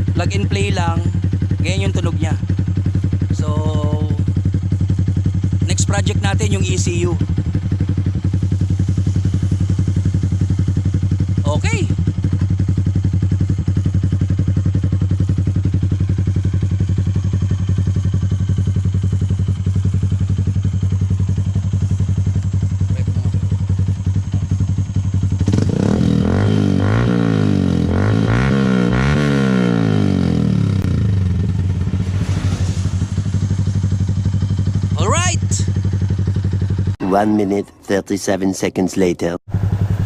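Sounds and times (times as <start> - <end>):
motorcycle engine idling and revving: 0.0 - 37.6, 39.5 - 40.0.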